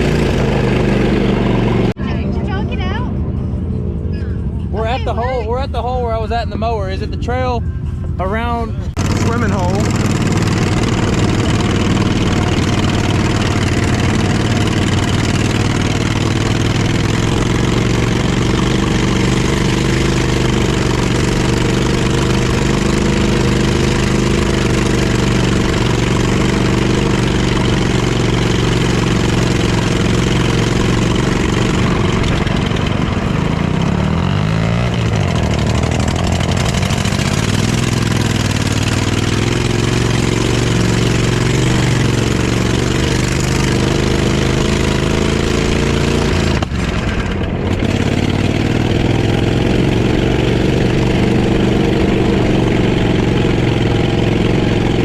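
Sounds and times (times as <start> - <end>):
small vehicle engine running: 0.0 - 7.1, 8.9 - 55.0.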